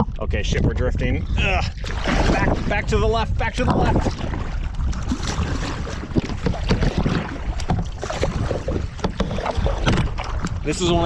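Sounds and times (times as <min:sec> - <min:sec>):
wind on microphone: 0:00.0 - 0:11.0
paddles splashing water: 0:01.7 - 0:11.0.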